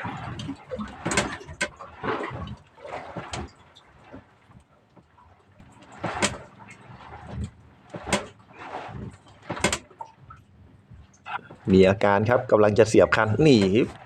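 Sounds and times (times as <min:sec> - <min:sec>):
water splashing against boat: 0:00.0 - 0:14.0.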